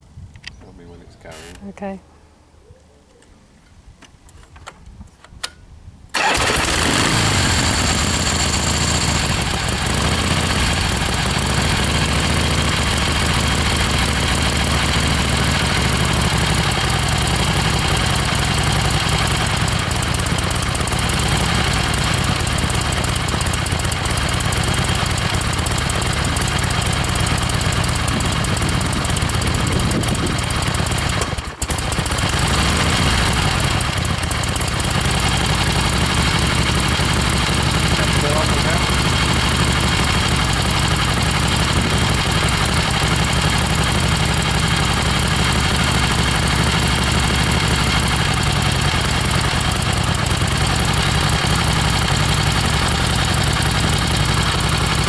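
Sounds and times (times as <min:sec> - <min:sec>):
motorcycle engine starting and idling: 0:05.4 - 0:55.0.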